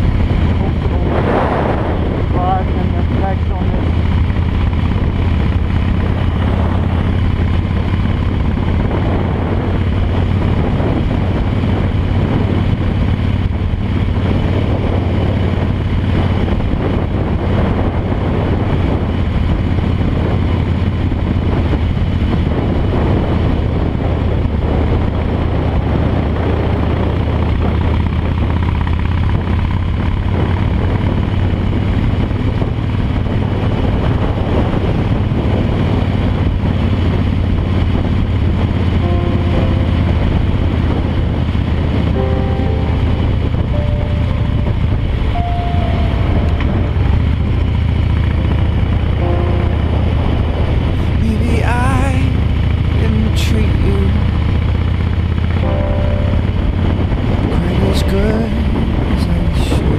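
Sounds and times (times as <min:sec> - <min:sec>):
motorcycle engine running steadily: 0:00.0 - 0:59.9
wind rushing over microphone: 0:00.0 - 0:59.9.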